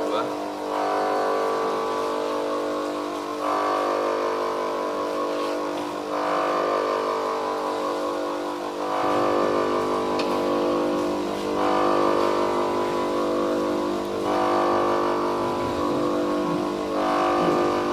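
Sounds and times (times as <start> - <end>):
bench grinder running: 0.0 - 17.9.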